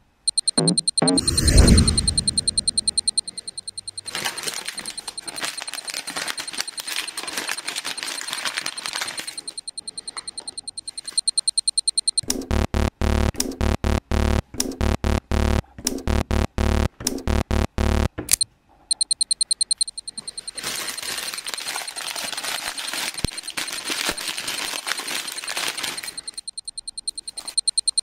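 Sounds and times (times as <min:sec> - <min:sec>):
rapidly pulsing electronic beeps: 0:00.0 - 0:07.3, 0:09.2 - 0:18.2, 0:18.9 - 0:23.8, 0:25.9 - 0:28.0
electronic crackling noise: 0:00.3 - 0:18.2, 0:19.0 - 0:28.0.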